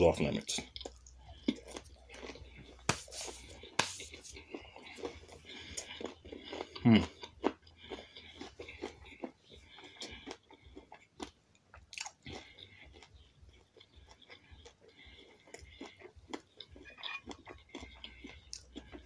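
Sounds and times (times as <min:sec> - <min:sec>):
person chewing food: 0:00.6 - 0:19.0.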